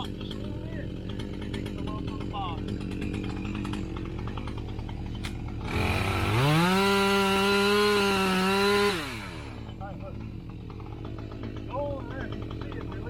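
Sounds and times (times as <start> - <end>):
chainsaw revving to full speed: 0.0 - 13.0.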